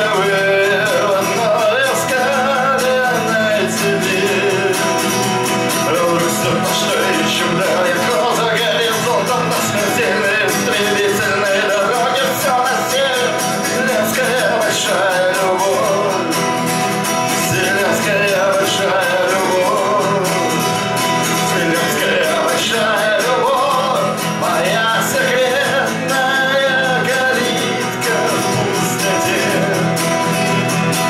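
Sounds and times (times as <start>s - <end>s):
acoustic guitar strumming: 0.0s - 31.0s
man singing: 0.0s - 31.0s.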